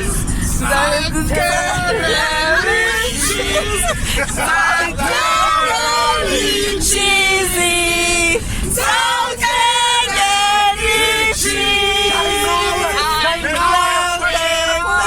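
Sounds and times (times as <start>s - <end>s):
group singing long notes: 0.6s - 15.0s.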